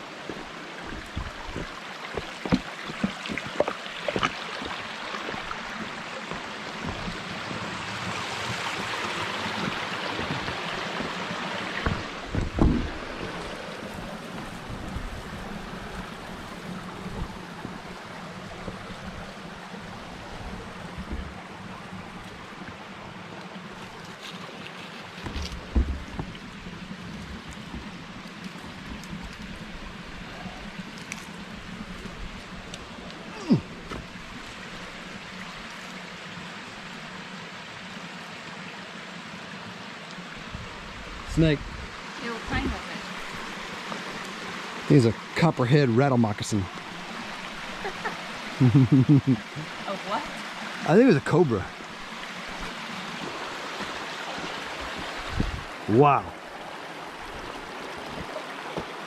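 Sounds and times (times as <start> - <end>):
creek flowing: 0.0 - 59.0
water rushing: 0.0 - 59.0.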